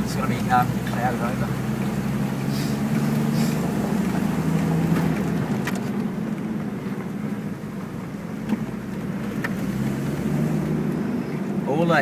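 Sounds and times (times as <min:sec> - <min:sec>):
car engine climbing: 0:00.0 - 0:12.0
road noise: 0:00.0 - 0:12.0.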